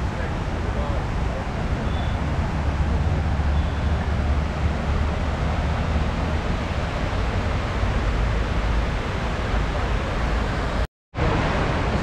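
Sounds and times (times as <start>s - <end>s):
water cascading down walls: 0.0s - 12.0s.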